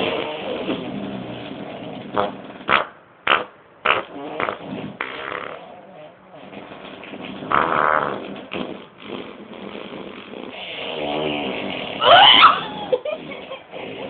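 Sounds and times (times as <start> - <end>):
buzzy fart noises: 0.0 - 14.0.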